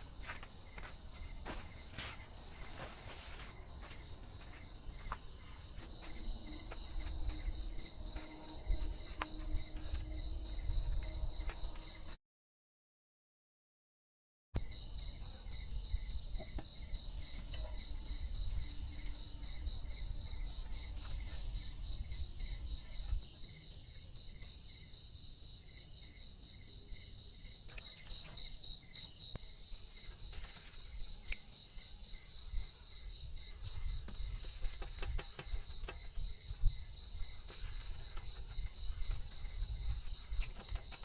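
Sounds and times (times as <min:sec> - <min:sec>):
insects high continuous trill: 0:00.0 - 0:12.2, 0:14.6 - 0:41.0.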